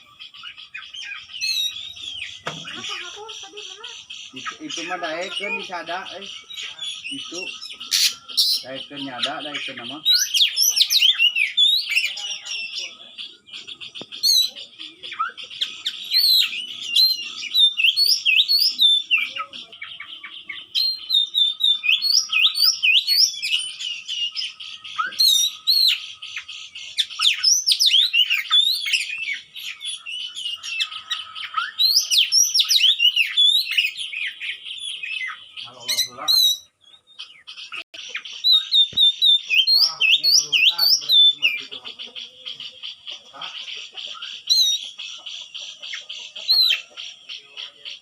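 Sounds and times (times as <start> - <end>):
magpie-robin singing: 0.0 - 48.0.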